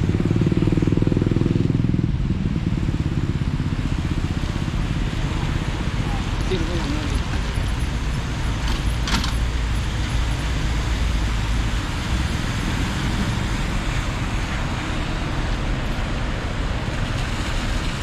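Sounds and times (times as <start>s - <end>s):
passing cars: 0.0s - 18.0s.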